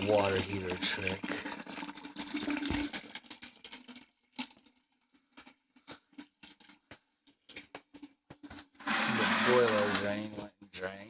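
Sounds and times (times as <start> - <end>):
faint water running: 0.0 - 11.0.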